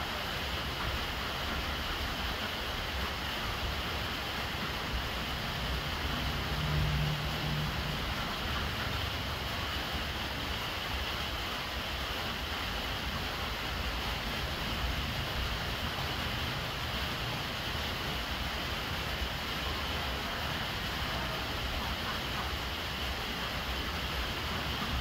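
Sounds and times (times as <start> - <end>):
rain falling on water: 0.0 - 25.0
water running from a downpipe: 0.0 - 25.0.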